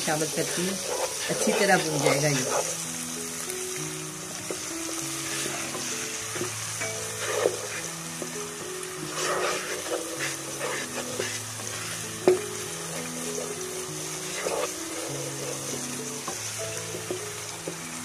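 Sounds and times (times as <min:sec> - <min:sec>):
wooden spatula scraping a pan: 0:00.0 - 0:02.8, 0:04.4 - 0:18.0
masala sizzling in oil: 0:00.0 - 0:18.0
soft background music: 0:00.0 - 0:18.0.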